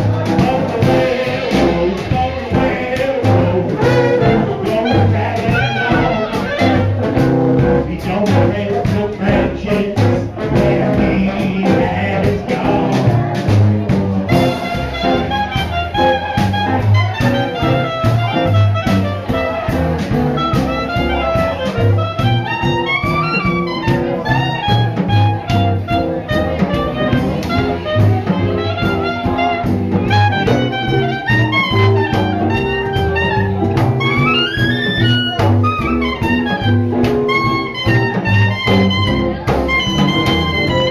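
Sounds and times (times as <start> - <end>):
steady bass notes: 0.0 - 40.9
swing jazz band playing: 0.0 - 40.9.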